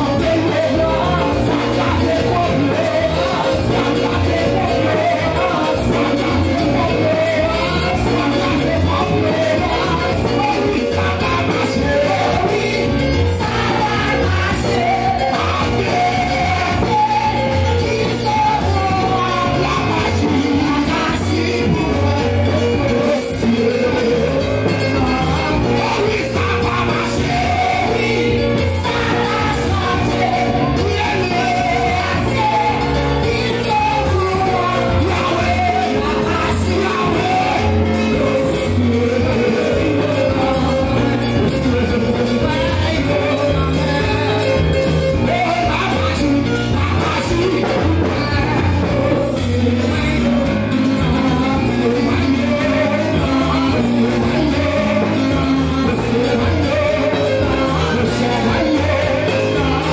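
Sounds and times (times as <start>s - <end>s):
amplified band music: 0.0s - 59.9s
congregation singing together: 0.0s - 59.9s.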